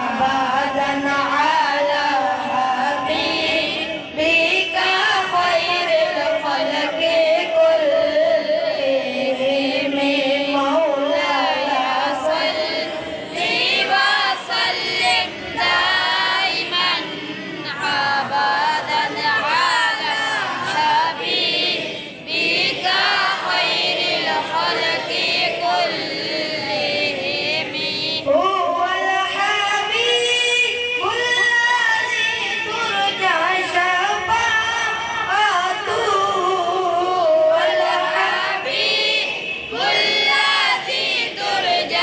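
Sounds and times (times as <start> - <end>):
person chanting melismatically: 0.0 - 42.0.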